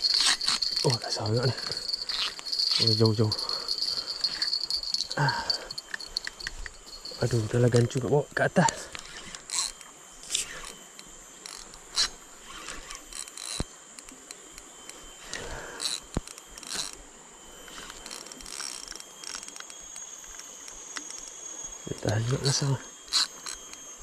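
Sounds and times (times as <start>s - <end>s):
fishing reel clicks and scrapes: 0.0s - 24.0s.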